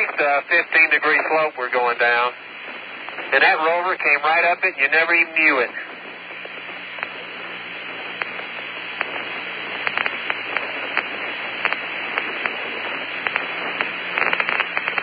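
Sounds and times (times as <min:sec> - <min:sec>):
crackling clicks: 0:00.0 - 0:15.0
low hum: 0:00.0 - 0:15.0
radio static hiss: 0:00.0 - 0:15.0.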